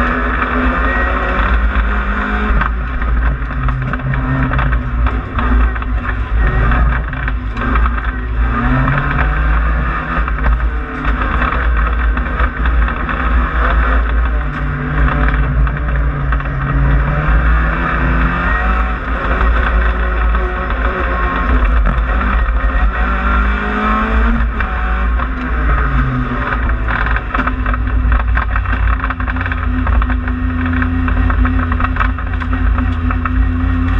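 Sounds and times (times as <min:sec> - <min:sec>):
race car engine revving: 0:00.0 - 0:33.9.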